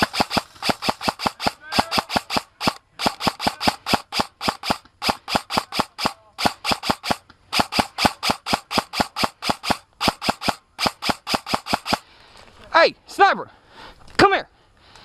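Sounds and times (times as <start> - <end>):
airsoft gun firing: 0.0 - 12.0.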